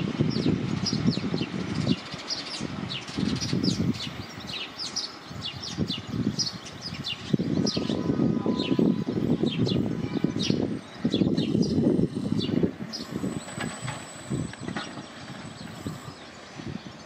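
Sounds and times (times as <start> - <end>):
gusty low rumble: 0.0 - 17.0
small birds chirping: 0.3 - 17.0.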